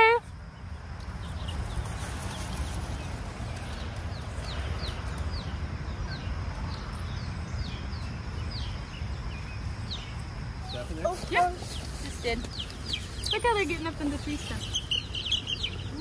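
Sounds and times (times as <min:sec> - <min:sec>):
chicks peeping: 0:01.0 - 0:16.0.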